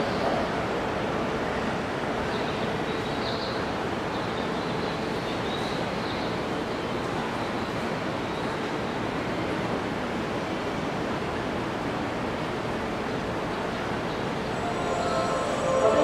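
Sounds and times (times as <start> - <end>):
railway platform noise with train: 0.0 - 16.0.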